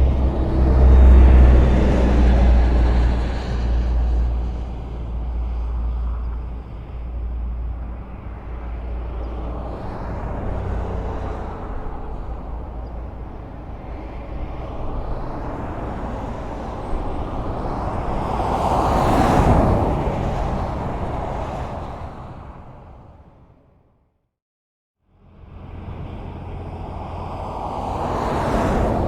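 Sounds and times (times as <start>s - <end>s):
vehicles passing: 0.0s - 23.9s, 25.1s - 29.0s
highway traffic rumble: 0.0s - 24.1s, 25.0s - 29.0s.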